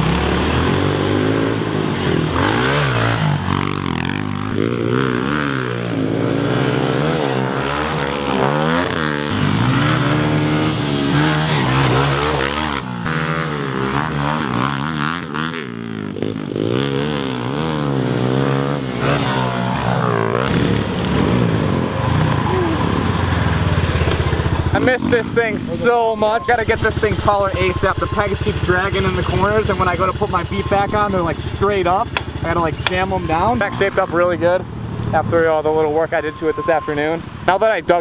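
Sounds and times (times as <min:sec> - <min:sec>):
small motorcycle engine revving: 0:00.0 - 0:34.0.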